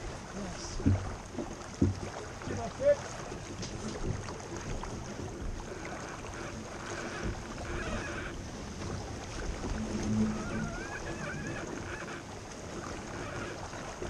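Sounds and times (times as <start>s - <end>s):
water rushing along hull: 0.0s - 14.0s.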